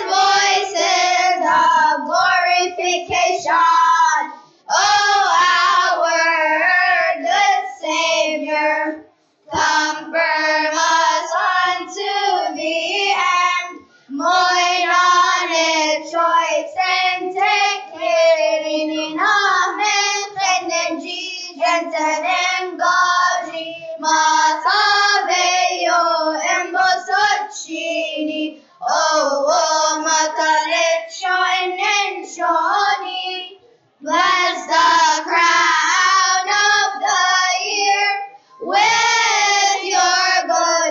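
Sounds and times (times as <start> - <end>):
children's choir singing: 0.0 - 40.9.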